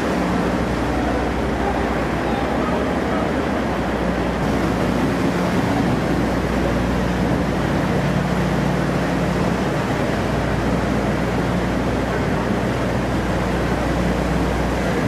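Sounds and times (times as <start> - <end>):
low engine hum: 0.0 - 15.0
water churning: 0.0 - 15.0.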